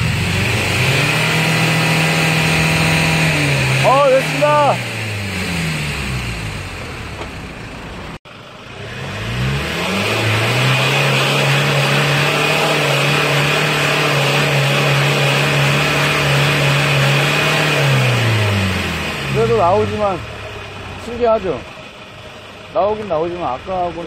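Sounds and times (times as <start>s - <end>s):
diesel car engine revving: 0.0s - 24.0s.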